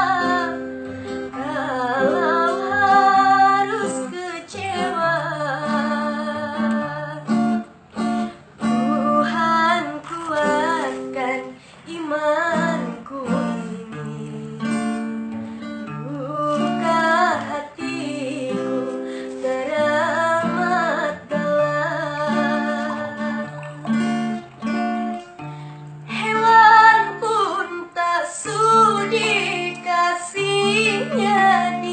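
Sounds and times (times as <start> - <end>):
woman singing: 0.0 - 24.5, 26.0 - 31.9
strummed acoustic guitar: 0.0 - 31.9.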